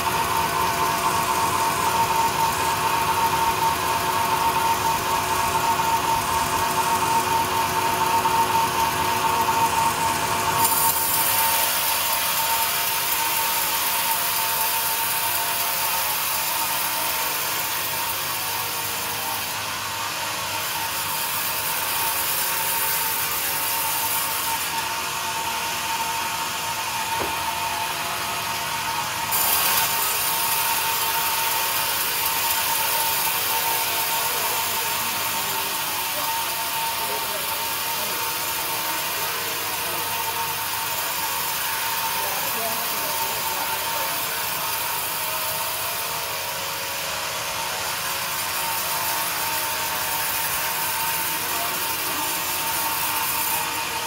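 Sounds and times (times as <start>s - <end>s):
sawmill machine whine: 0.0s - 54.0s.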